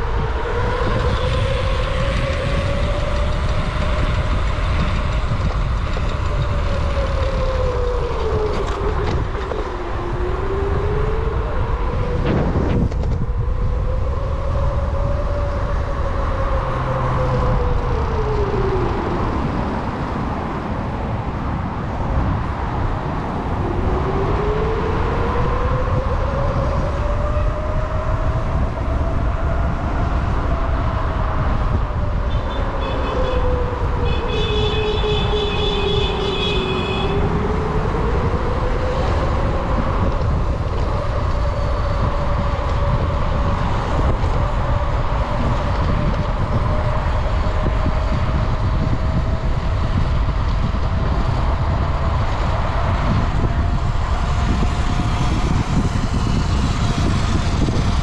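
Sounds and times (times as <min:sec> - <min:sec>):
road rumble: 0:00.0 - 0:58.0
wind: 0:00.0 - 0:58.0.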